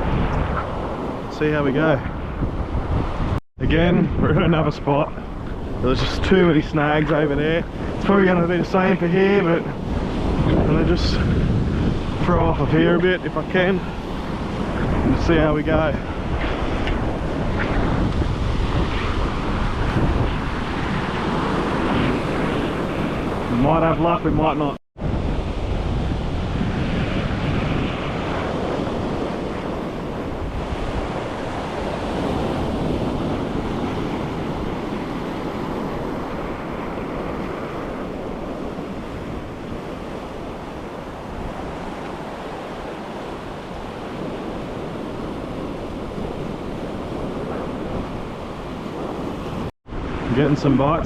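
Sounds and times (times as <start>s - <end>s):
ocean surf washing in: 0.0s - 51.0s
wind buffeting microphone: 0.0s - 51.0s.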